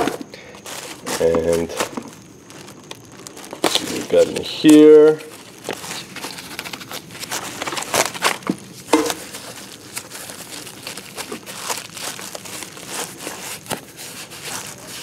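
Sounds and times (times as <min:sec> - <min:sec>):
plastic packing crinkling and rustling: 0:00.0 - 0:15.0.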